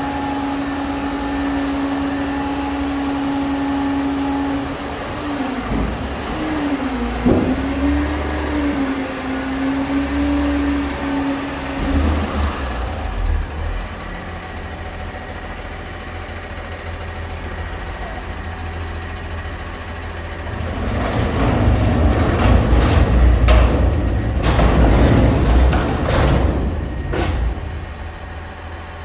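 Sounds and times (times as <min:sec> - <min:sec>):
garbage truck engine rumbling: 0:00.0 - 0:29.0.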